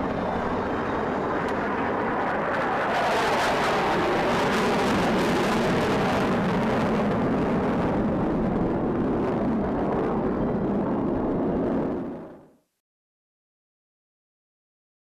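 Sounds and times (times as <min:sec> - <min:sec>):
jet engines roaring overhead: 0:00.0 - 0:12.5.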